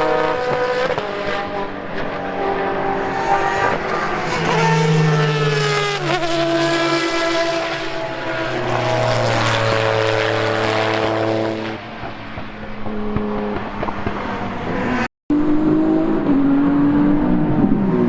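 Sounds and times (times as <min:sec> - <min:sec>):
racing car engines revving high: 0:00.0 - 0:18.0.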